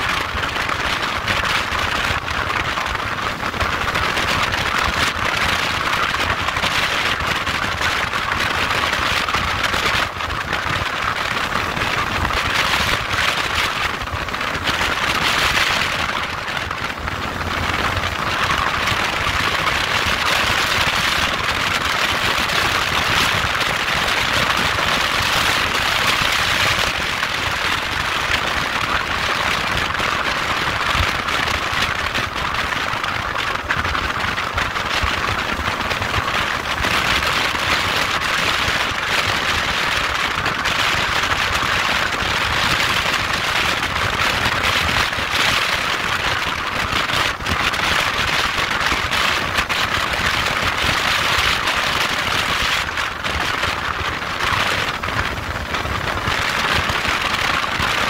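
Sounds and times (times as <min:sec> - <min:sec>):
rushing wind noise: 0:00.0 - 0:58.0
motorcycle engine rumble: 0:00.1 - 0:58.0.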